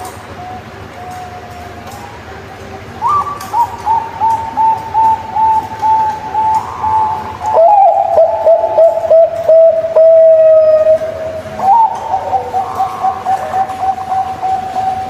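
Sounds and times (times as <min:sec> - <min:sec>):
dove cooing: 0:02.9 - 0:15.0.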